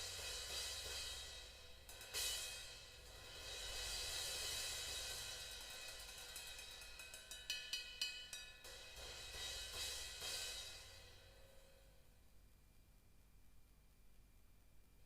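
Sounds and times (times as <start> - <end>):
stick strikes on cymbal: 0.0 - 12.1
cymbal wash: 0.0 - 12.2.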